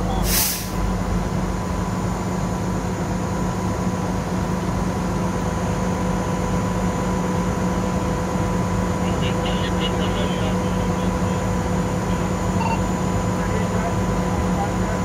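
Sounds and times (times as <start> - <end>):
fire engine pump droning: 0.0 - 15.0.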